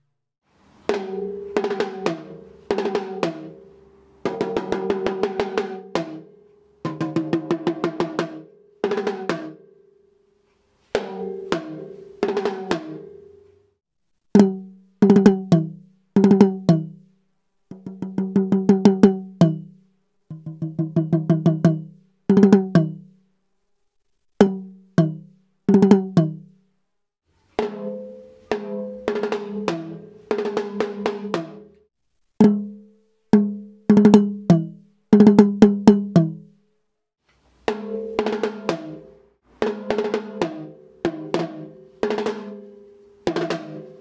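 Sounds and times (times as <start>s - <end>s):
small drums being played: 0.6s - 9.7s, 10.8s - 13.6s, 14.4s - 17.1s, 17.7s - 23.2s, 24.4s - 26.6s, 27.4s - 36.6s, 37.4s - 44.0s.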